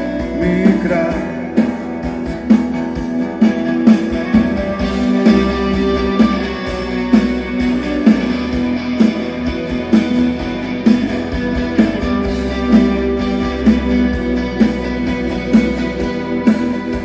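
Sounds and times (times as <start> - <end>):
strummed guitar chords: 0.0 - 17.0
sustained bass: 0.0 - 17.0.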